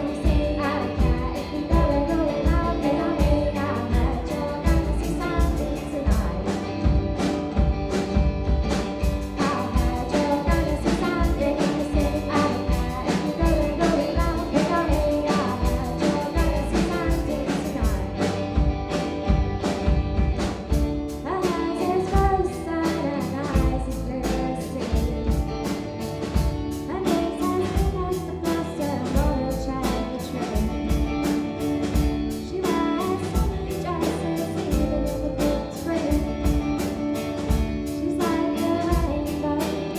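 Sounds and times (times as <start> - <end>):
person singing: 0.0 - 7.2, 9.0 - 19.1, 21.2 - 25.8, 26.8 - 39.9
guitar: 0.0 - 39.9
steady drum beat: 0.0 - 39.9.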